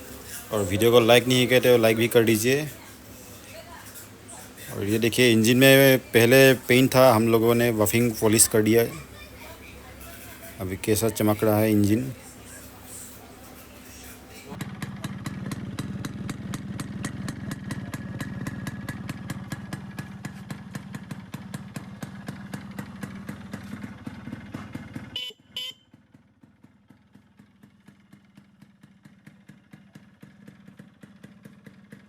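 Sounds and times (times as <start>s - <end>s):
two-stroke engine idling: 0.0s - 32.0s.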